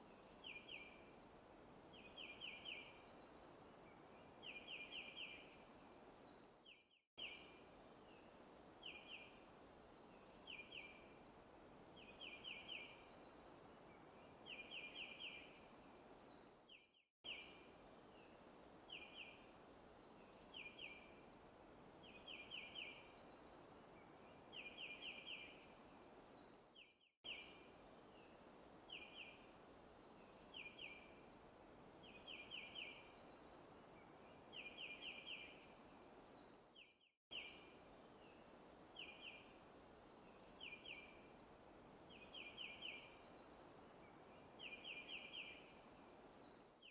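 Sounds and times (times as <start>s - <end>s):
soft steady hiss: 0.0s - 46.9s.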